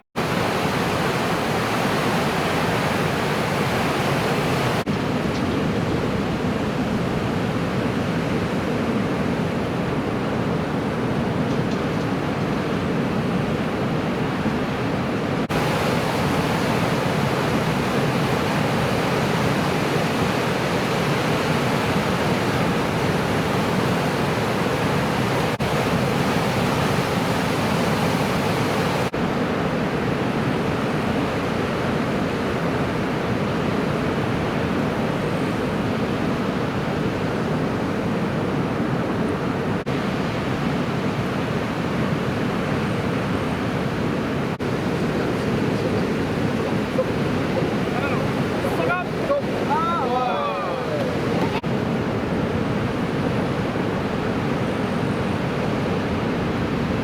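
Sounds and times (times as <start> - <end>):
ocean surf breaking: 0.2 - 57.0.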